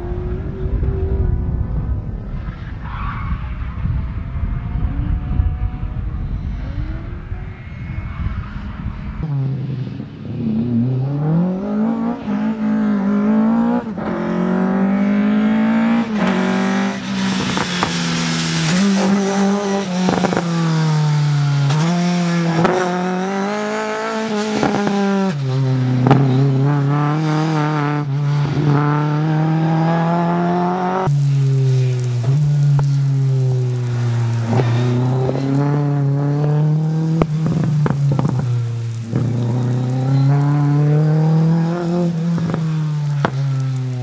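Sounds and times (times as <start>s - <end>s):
rally car engine revving: 0.0s - 44.0s.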